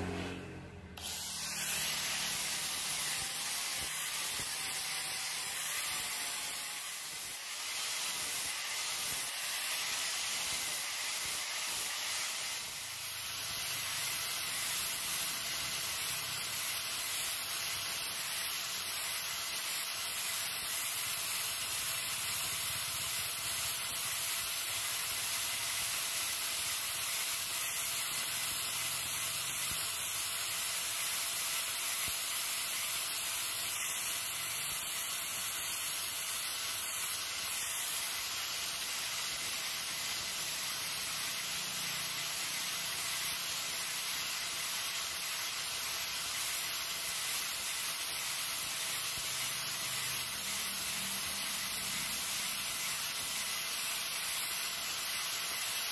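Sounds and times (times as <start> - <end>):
angle grinder sanding wood: 0.0 - 55.9.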